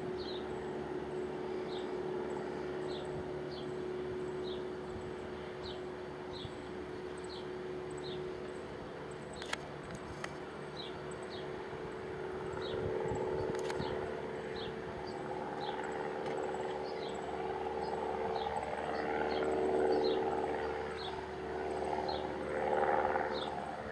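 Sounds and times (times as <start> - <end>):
plane engine and propeller droning: 0.0 - 23.9.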